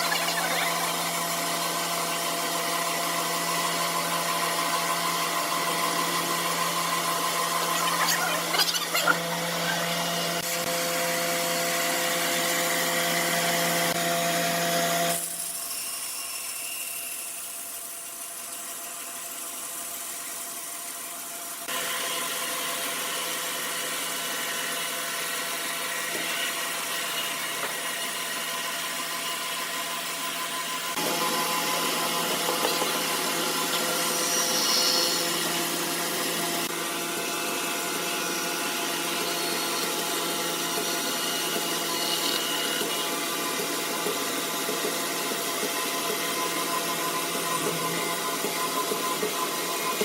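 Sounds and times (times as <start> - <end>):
sawmill machinery humming: 0.0 - 16.8, 21.0 - 50.0.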